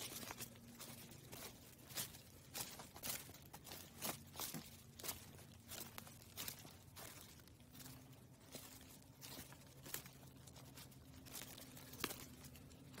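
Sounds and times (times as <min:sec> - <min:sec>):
footsteps on dry leaves: 0:00.0 - 0:13.0.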